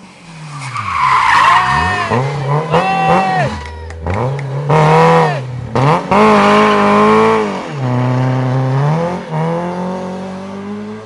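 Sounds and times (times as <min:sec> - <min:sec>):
car engine accelerating hard: 0:00.2 - 0:11.0.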